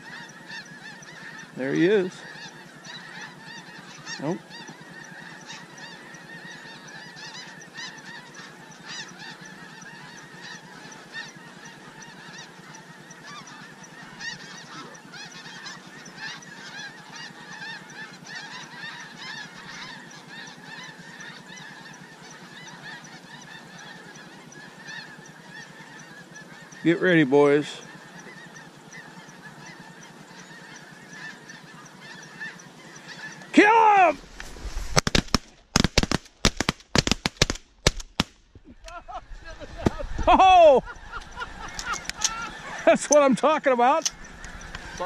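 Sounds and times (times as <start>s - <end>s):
geese honking: 0.0s - 45.0s.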